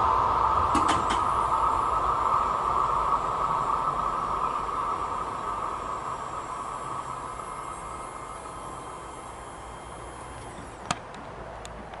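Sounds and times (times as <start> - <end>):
diesel railcar rushing: 0.0 - 12.0.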